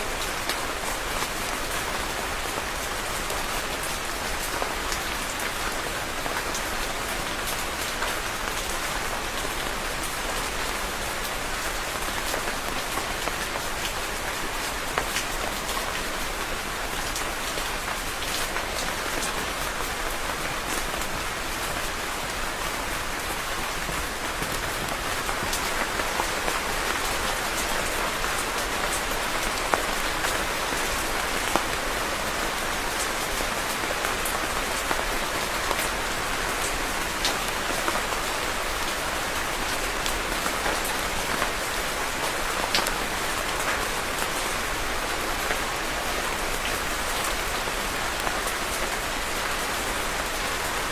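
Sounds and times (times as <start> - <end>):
rain hissing on a surface: 0.0 - 50.9.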